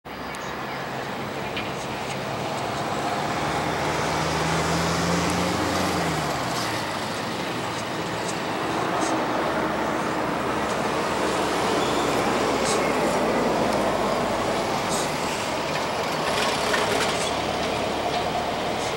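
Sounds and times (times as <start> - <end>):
jet engines roaring at takeoff: 0.1 - 18.9
low engine tone: 0.1 - 18.9.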